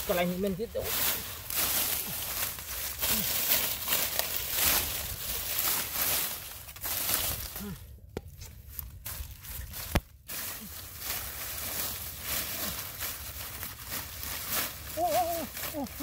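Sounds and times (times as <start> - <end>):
dry leaves crackling and rustling: 0.0 - 7.9, 8.6 - 16.0.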